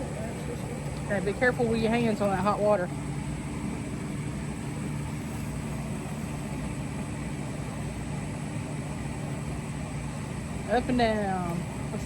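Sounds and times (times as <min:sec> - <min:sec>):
motor humming steadily: 0:00.0 - 0:12.0.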